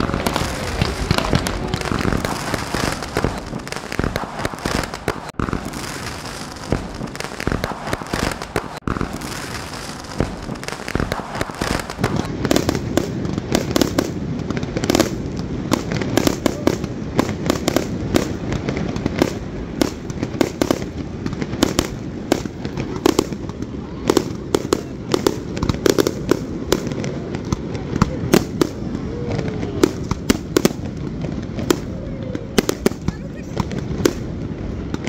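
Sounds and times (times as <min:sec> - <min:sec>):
fireworks bangs and crackling: 0:00.0 - 0:35.0.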